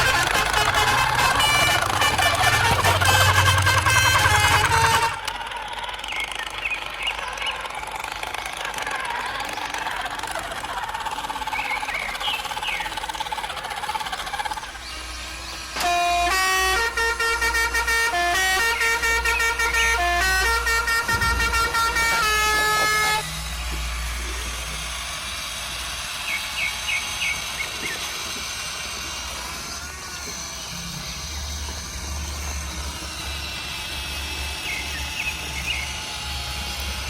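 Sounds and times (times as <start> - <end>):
model engine rumble: 0.0 - 37.0
toy truck horn tune: 0.0 - 37.0.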